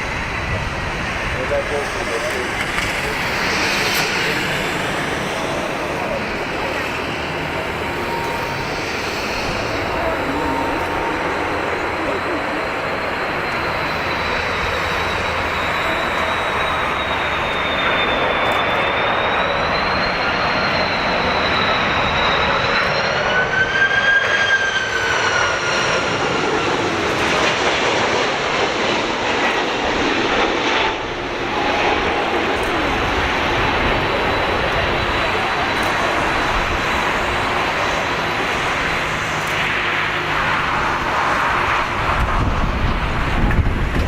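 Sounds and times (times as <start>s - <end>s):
jet airliner passing: 0.0s - 44.0s.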